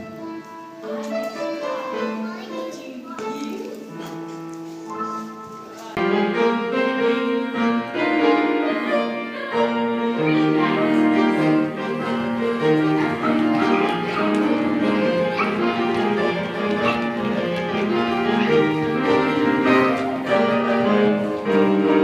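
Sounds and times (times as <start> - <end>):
classical piano music: 0.0 - 22.0.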